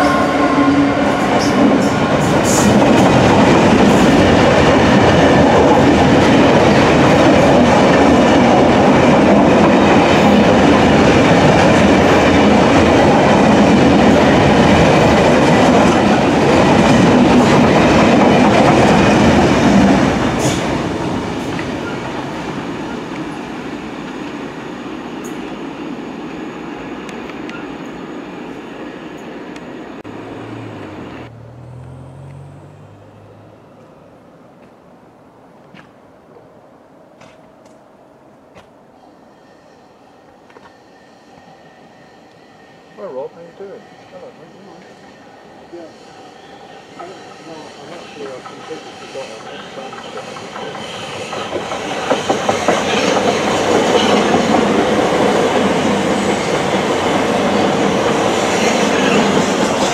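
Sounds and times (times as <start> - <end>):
freight train wheels on rails: 0.0 - 34.8, 38.5 - 59.9.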